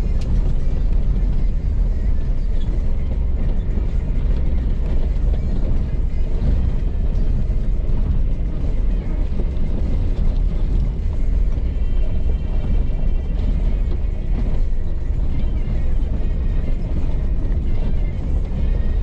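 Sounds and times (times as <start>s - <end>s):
off-road vehicle rumbling: 0.0s - 19.0s.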